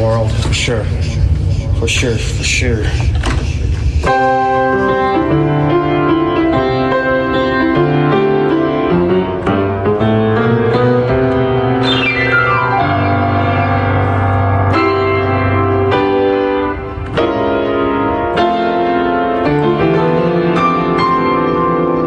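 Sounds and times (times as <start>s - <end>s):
fast piano run: 0.0s - 22.0s
piano playing rhythmic chords: 3.2s - 22.0s.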